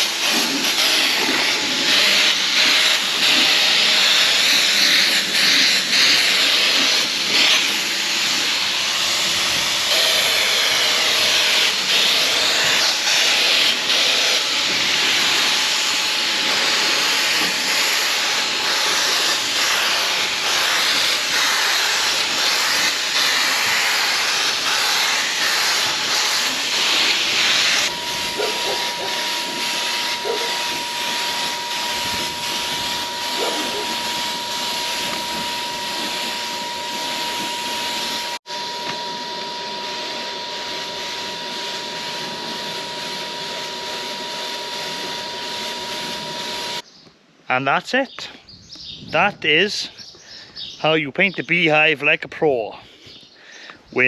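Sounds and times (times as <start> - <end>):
paint sprayer hissing: 0.0 - 46.8
steady whine: 0.0 - 46.8.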